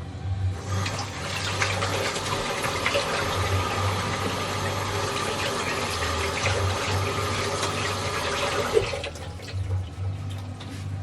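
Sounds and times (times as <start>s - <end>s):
tap water running: 0.6s - 11.0s.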